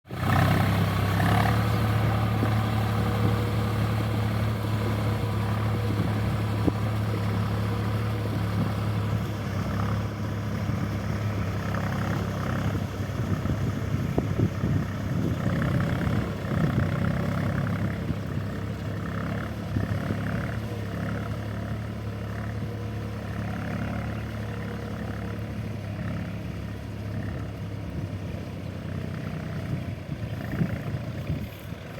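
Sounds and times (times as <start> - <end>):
tractor engine droning: 0.0 - 31.9.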